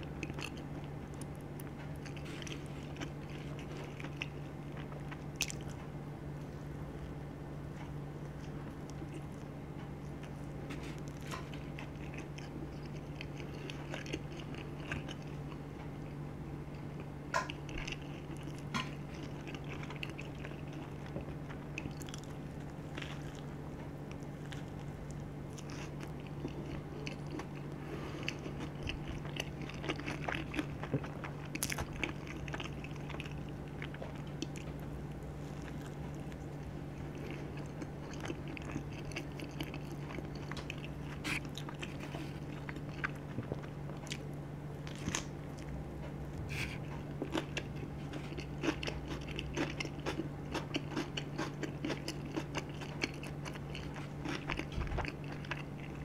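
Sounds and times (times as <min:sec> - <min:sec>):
close-up chewing with crunches: 0:00.0 - 0:56.0
steady low hum: 0:00.0 - 0:56.0.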